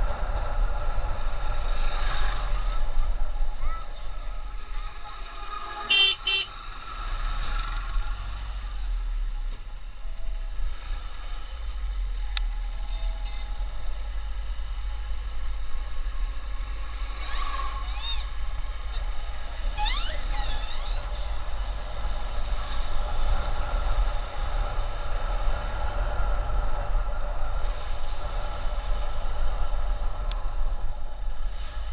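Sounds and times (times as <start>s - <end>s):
motorcycle wind and road rumble: 0.0s - 31.9s.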